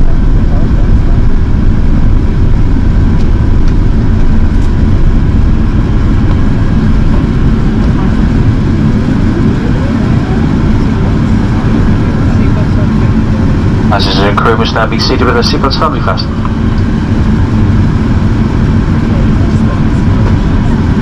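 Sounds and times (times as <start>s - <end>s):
faint rising whine: 0.0s - 21.0s
low rumble of engines and airflow: 0.0s - 21.0s.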